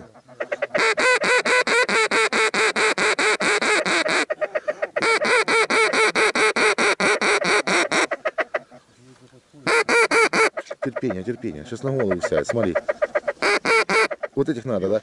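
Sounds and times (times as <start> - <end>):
duck call quacks: 0.0 - 8.8, 9.6 - 14.4.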